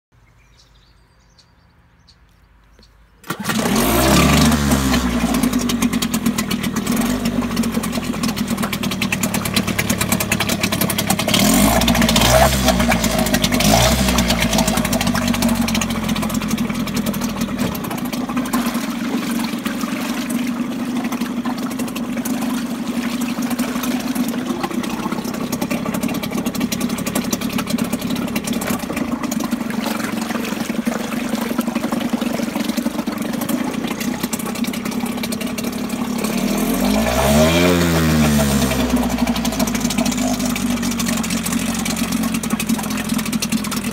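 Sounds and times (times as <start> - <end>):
propeller churning water: 3.2 - 43.9
two-stroke outboard motor: 3.2 - 43.9.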